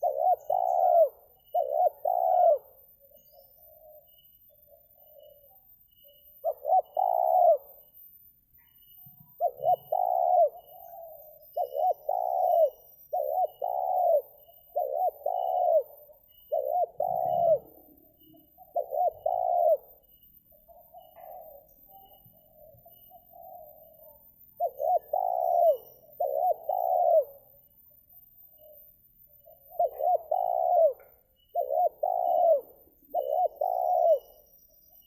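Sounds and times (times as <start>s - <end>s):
dove cooing: 0.0s - 7.9s, 9.2s - 35.0s.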